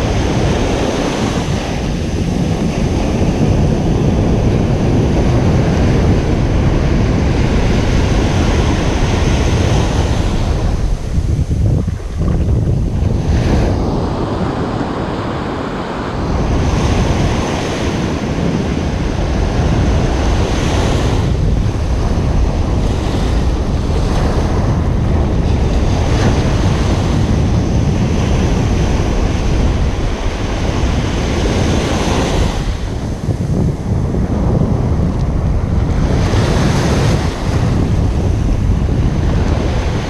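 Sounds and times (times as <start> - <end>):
ocean surf breaking: 0.0 - 40.0
wind rumbling on microphone: 0.0 - 40.0.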